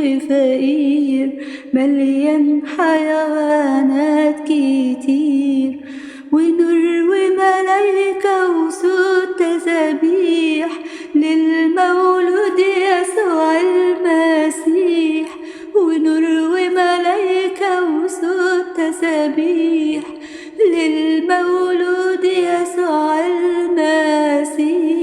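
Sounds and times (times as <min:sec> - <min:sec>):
woman singing a hymn unaccompanied: 0:00.0 - 0:25.0.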